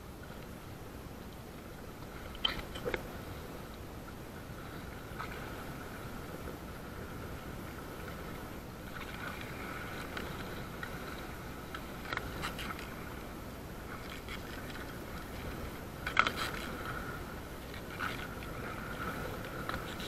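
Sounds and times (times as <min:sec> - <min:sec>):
water sloshing against kayak: 0:01.4 - 0:20.0.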